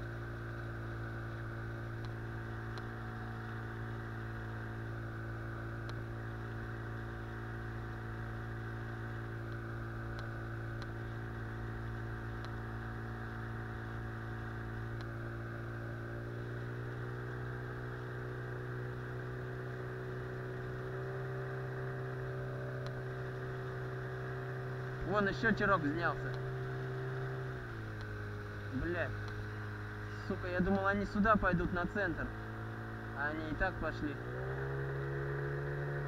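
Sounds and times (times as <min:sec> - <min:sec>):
outboard motor running: 0:00.0 - 0:36.0.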